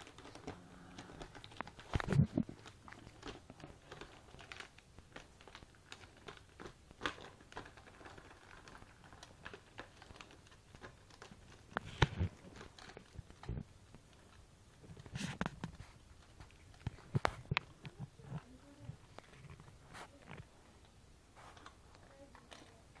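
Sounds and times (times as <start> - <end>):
plastic shrink-wrap crinkling: 0.0 - 23.0.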